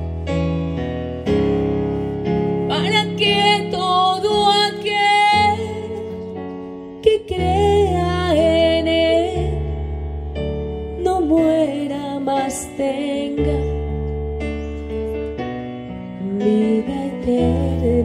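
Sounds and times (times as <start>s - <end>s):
electric keyboard hymn chords: 0.0s - 18.0s.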